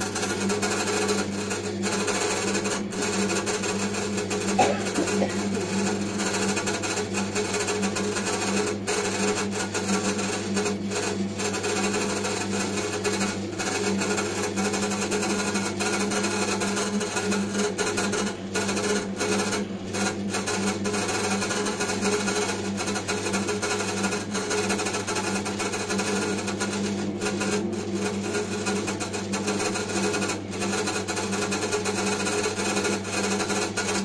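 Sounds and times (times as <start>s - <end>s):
dough kneading machine humming: 0.0s - 34.0s.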